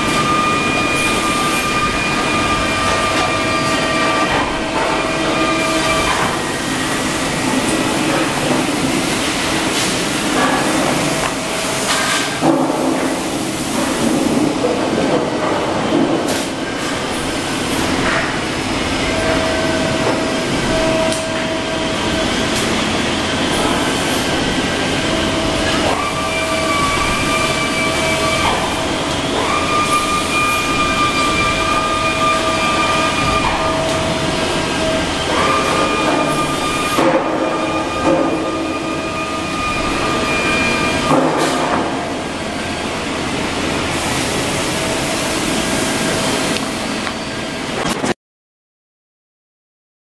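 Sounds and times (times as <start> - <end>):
press brake machinery noise: 0.0 - 48.2
steady machine whine: 0.0 - 48.2.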